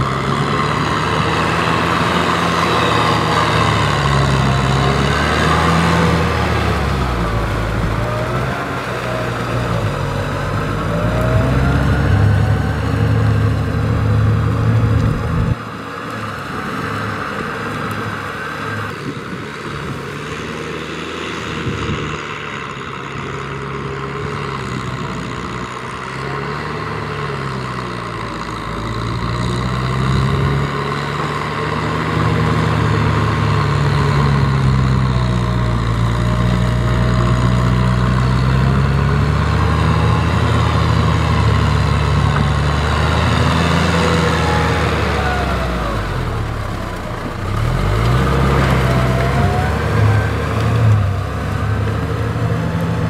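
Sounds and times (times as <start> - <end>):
rotary tiller churning soil: 0.0 - 53.0
tractor diesel engine under load: 0.0 - 53.0.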